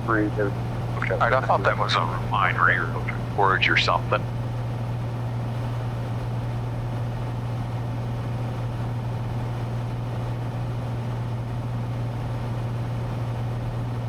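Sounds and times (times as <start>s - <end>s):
airplane engine and propeller droning: 0.0s - 14.0s.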